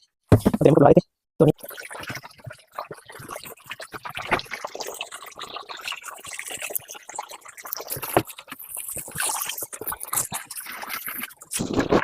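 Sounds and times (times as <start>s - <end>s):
water splashing and dripping: 1.5s - 12.0s.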